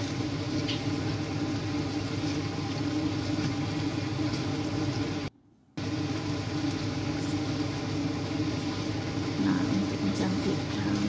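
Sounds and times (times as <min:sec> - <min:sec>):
extractor fan motor hum: 0:00.0 - 0:11.0.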